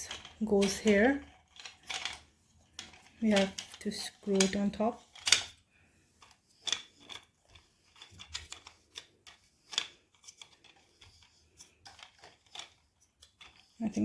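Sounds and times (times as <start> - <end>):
small clicks and scrapes: 0.0 - 14.0.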